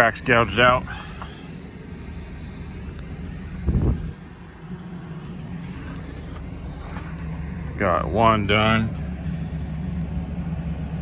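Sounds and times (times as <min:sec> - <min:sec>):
engine running with low pulse: 0:00.0 - 0:11.0.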